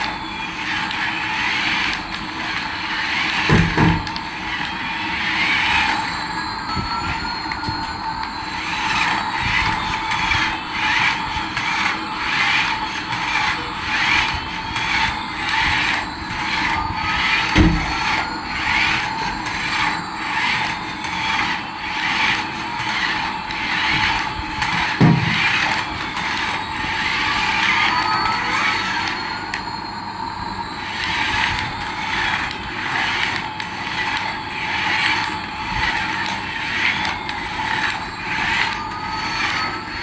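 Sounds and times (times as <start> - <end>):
toy motor and gears whirring: 0.0 - 40.0.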